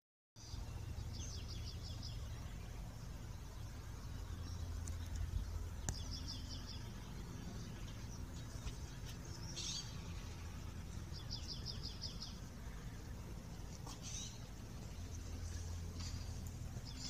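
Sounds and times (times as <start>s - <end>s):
small bird chirping: 0.4s - 17.0s
steady low rumble: 0.4s - 17.0s.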